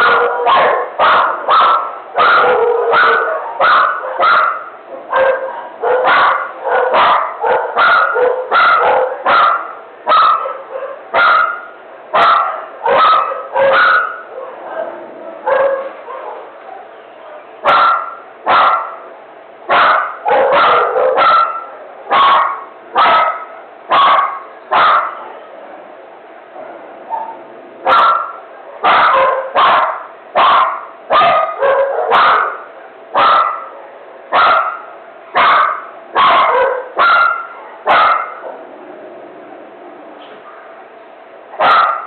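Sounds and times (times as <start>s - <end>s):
dog barking: 0.0s - 19.0s, 19.7s - 25.4s, 26.6s - 38.6s, 41.6s - 42.0s.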